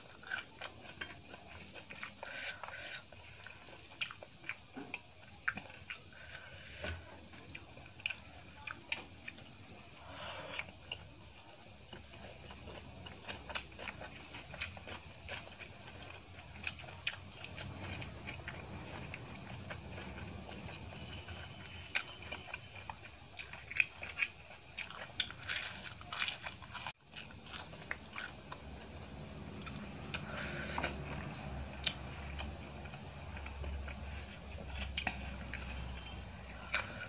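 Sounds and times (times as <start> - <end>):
chewing with wet mouth clicks: 0.0 - 37.0.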